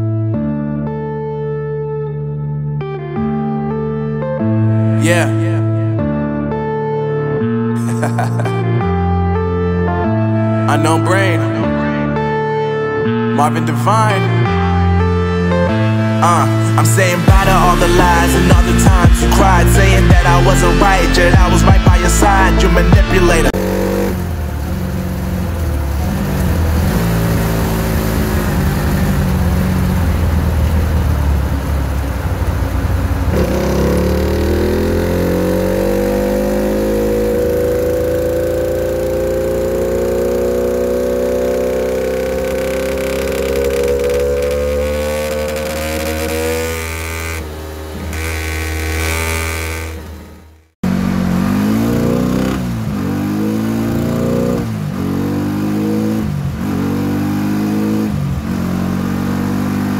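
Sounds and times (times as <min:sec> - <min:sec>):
motorcycle engine revving: 0:07.8 - 0:59.9.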